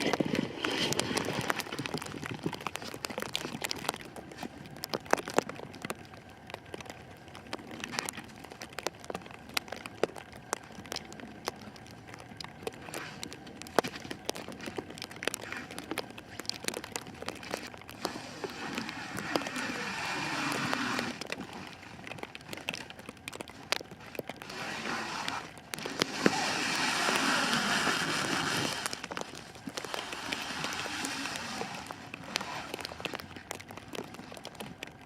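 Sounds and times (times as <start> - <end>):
plastic wrap crackling: 0.0 - 35.0.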